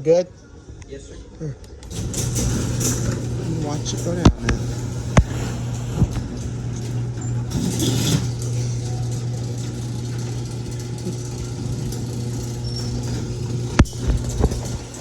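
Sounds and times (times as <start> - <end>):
garage door opener motor hum: 1.8 - 15.0
garage door rattle: 1.8 - 15.0.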